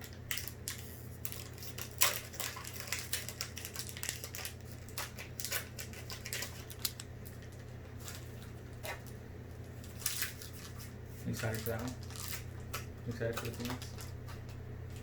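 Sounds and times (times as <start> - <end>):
foil wrapper crinkling and tearing: 0.0 - 15.0
steady low hum: 0.0 - 15.0.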